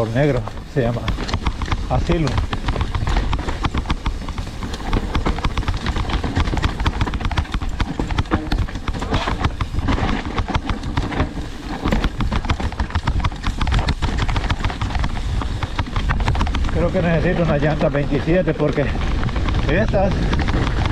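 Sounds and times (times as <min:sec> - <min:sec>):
mountain bike rattling on trail: 0:00.0 - 0:20.9.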